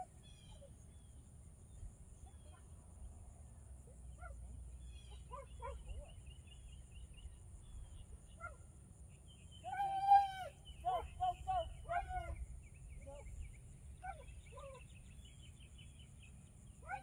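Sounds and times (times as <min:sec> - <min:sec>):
small birds chirping: 0:00.0 - 0:03.2, 0:04.1 - 0:17.0.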